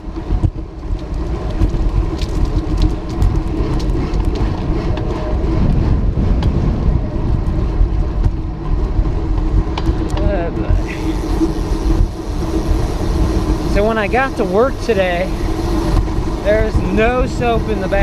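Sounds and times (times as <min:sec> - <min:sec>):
small ticks from bicycle: 0:00.0 - 0:05.8, 0:07.4 - 0:18.0
bicycle running hum: 0:00.0 - 0:18.0
wind buffeting microphone: 0:00.0 - 0:18.0.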